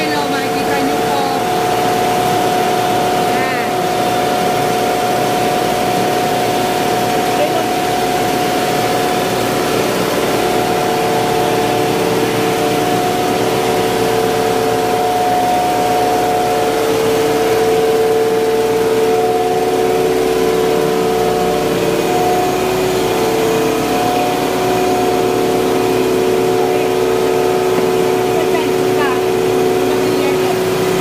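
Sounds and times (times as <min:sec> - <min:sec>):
machinery humming: 0:00.0 - 0:31.0
whining machine tones: 0:00.0 - 0:31.0.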